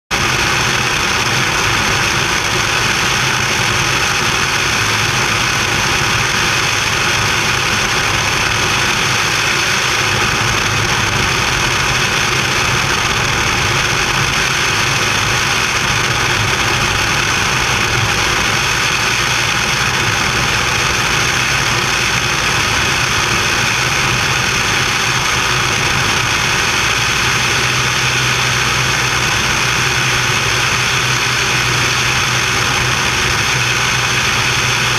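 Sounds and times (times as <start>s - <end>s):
airplane engine and propeller: 0.1s - 34.9s.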